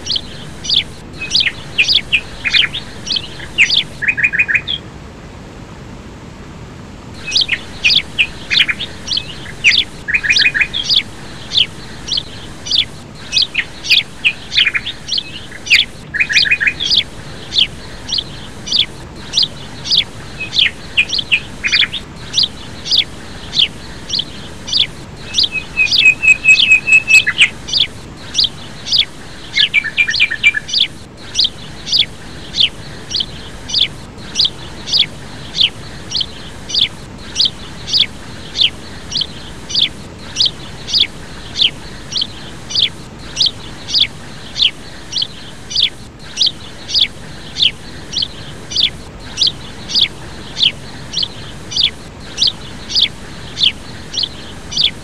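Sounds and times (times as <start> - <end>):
small bird chirping: 0.0 - 4.8, 7.2 - 55.0.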